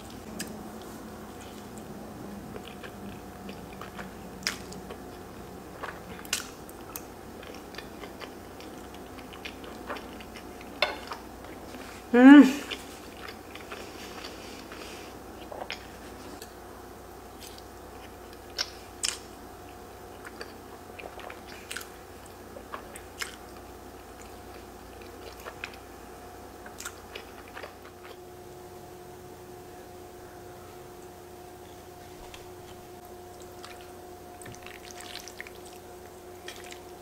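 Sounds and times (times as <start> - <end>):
chewing and wet mouth sounds: 0.0 - 16.6, 17.3 - 25.9, 26.6 - 28.2, 32.2 - 37.0
faint steady hum: 0.0 - 37.0.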